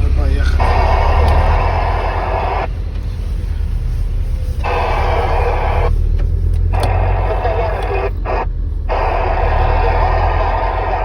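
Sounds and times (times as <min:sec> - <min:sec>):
radio static hiss: 0:00.0 - 0:11.0
truck engine low rumble: 0:00.0 - 0:11.0.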